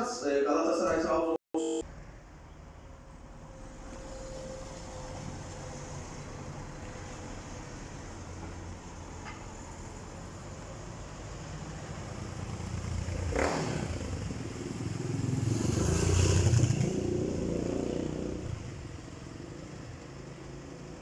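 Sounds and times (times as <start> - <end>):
car passing by: 2.8 - 21.0.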